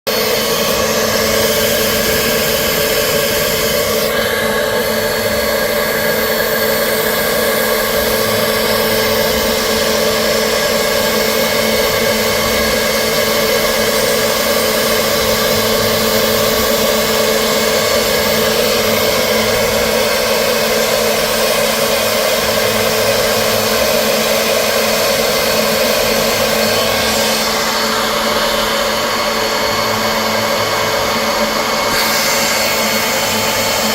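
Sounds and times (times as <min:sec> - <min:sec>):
milling machine humming: 0:00.1 - 0:33.9.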